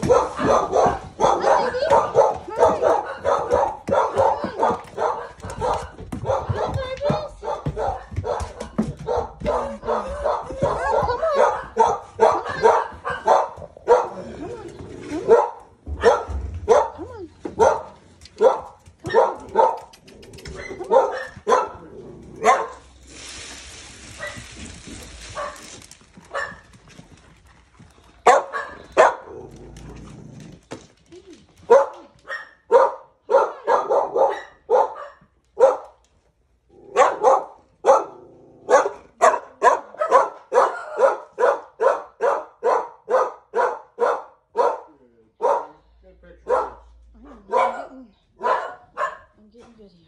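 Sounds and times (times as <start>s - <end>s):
dogs barking: 0.0s - 14.5s, 15.2s - 22.9s, 25.3s - 26.7s, 28.2s - 29.6s, 31.7s - 36.0s, 36.8s - 45.8s, 46.4s - 49.4s.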